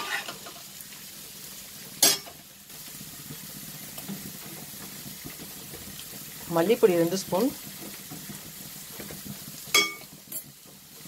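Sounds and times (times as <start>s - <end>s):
vegetables sizzling in a pot: 0.0s - 11.0s.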